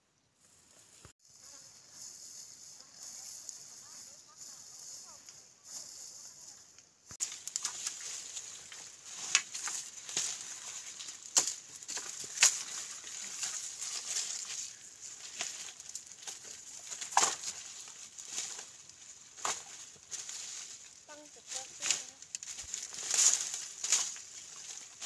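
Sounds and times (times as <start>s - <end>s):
dry vines and stakes rustling: 0.4s - 25.0s.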